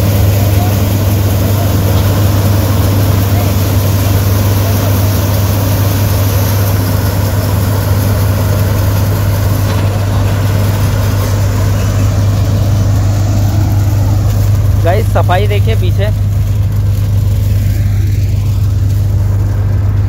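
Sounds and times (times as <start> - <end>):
combine harvester engine hum: 0.0 - 20.0.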